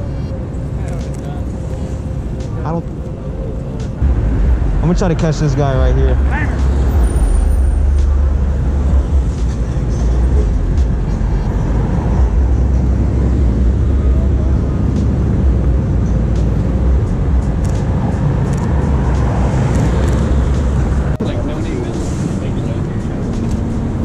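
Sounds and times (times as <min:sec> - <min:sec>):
cars driving past: 0:00.0 - 0:24.0
heavy low rumble: 0:00.0 - 0:24.0.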